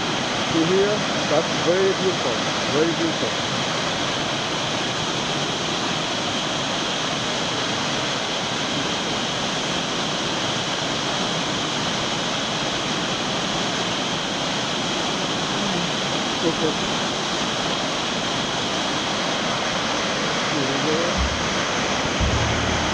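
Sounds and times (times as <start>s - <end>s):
waterfall roaring: 0.0s - 11.9s, 12.7s - 22.9s.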